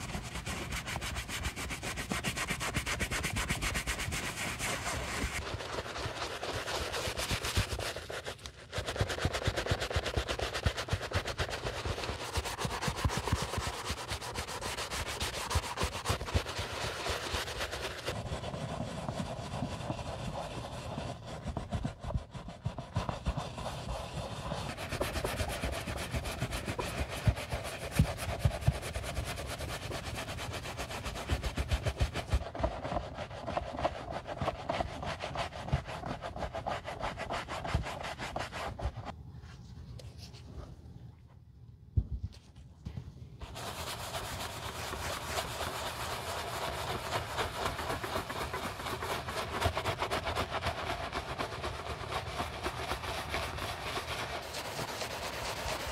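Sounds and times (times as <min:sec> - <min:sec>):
brush scrubbing sneaker: 0:00.0 - 0:39.1, 0:43.4 - 0:55.9.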